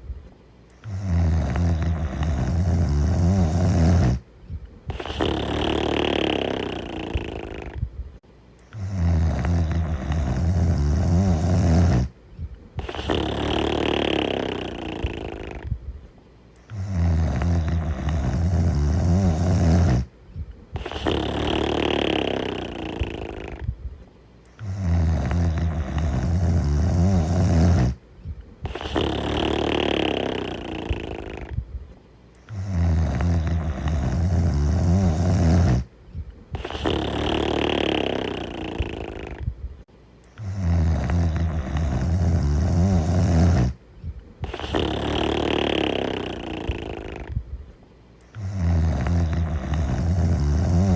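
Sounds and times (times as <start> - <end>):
person snoring: 0.8 - 4.2, 4.9 - 7.8, 8.7 - 12.2, 12.8 - 15.8, 16.6 - 20.1, 20.7 - 23.7, 24.5 - 28.0, 28.6 - 31.6, 32.4 - 35.9, 36.5 - 39.5, 40.4 - 43.8, 44.4 - 47.4, 48.3 - 50.9.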